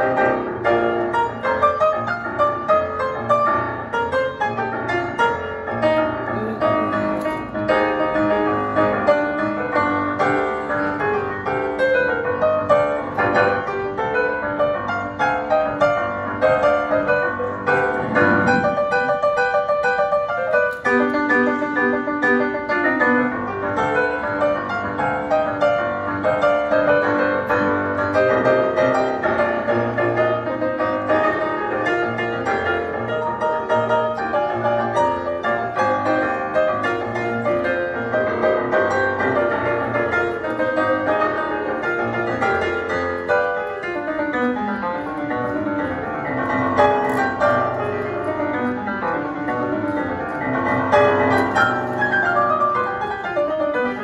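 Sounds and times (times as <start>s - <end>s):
solo piano: 0.0s - 54.0s.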